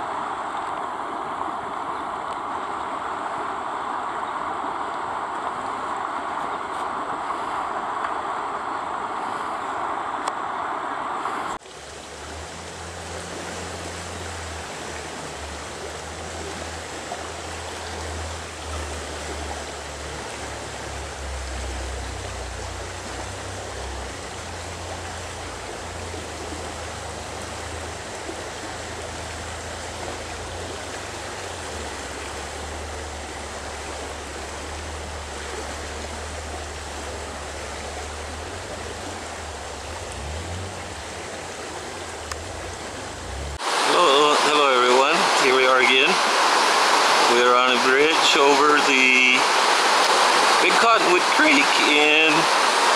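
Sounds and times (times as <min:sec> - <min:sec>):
creek water rushing: 0:00.0 - 0:52.9
low rumble of water: 0:00.0 - 0:52.9.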